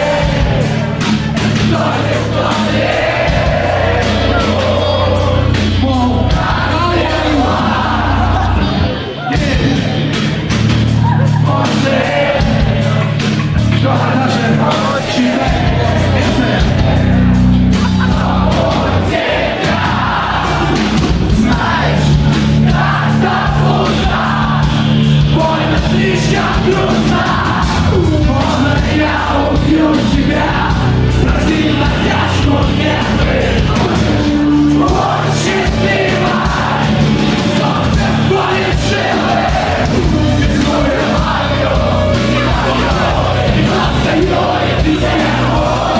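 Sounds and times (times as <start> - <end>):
man singing lead vocal: 0.0 - 10.2, 11.2 - 45.9
bass: 0.0 - 45.9
distorted guitars: 0.0 - 45.9
drums: 0.0 - 45.9.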